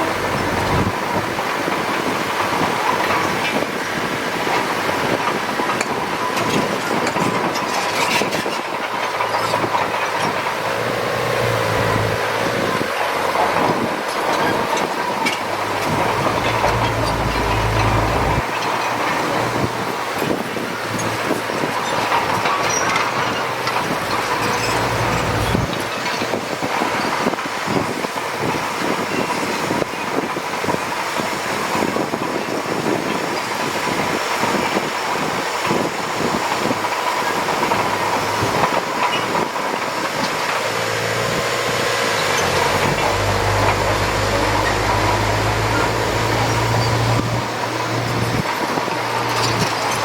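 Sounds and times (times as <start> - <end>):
diesel engine running: 0.0 - 50.0
steel tracks clanking: 0.0 - 50.0.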